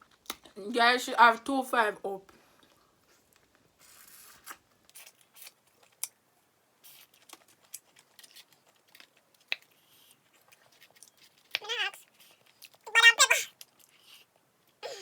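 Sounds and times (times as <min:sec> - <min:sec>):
close-up eating sounds: 0:02.5 - 0:15.0.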